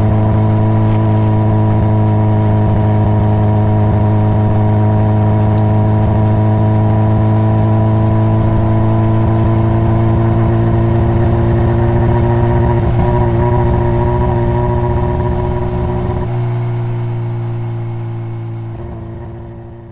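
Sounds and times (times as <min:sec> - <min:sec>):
motorcycle engine running steadily: 0:00.0 - 0:19.9.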